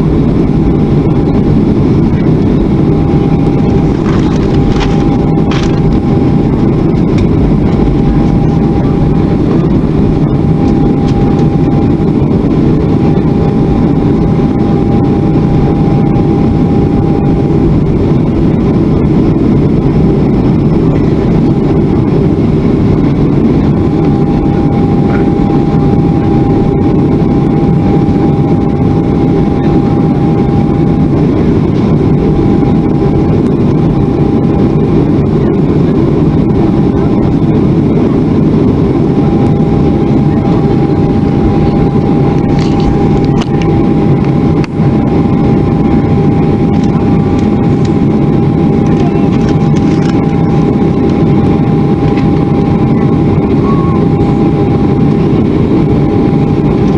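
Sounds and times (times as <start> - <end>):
faint engine whine: 0.0 - 56.9
jet engines rumbling: 0.0 - 56.9.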